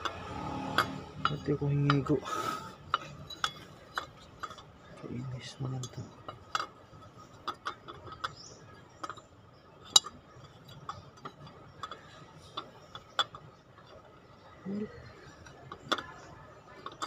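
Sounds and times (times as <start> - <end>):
metal pulley clicking and clinking: 0.0 - 17.0.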